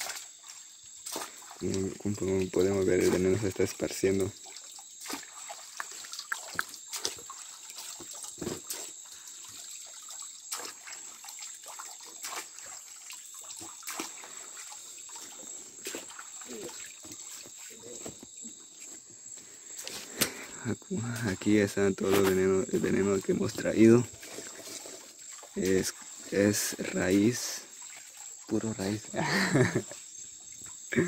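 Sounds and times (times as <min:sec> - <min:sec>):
stream water splashing and trickling: 0:00.0 - 0:31.0.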